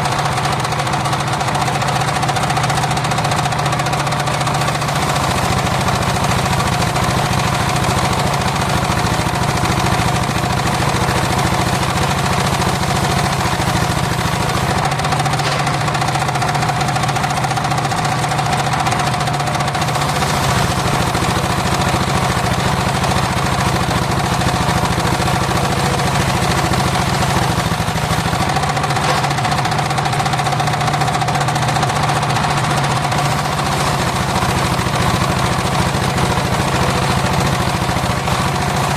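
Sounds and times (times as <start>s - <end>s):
circular saw engine running: 0.0s - 38.9s.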